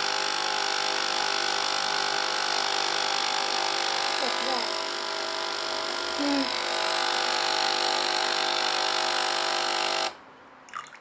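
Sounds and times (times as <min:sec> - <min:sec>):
coffee machine pump buzzing: 0:00.0 - 0:10.2.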